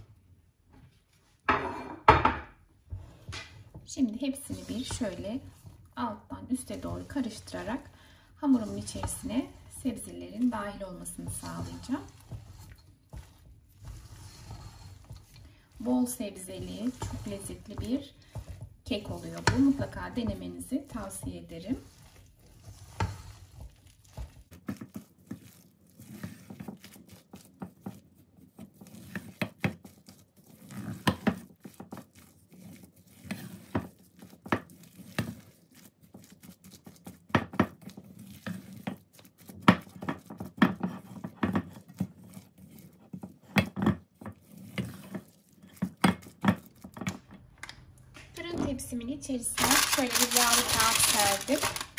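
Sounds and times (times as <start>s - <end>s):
wet stirring of batter: 0.0s - 51.9s
spatula knocking and scraping bowl: 1.4s - 51.9s.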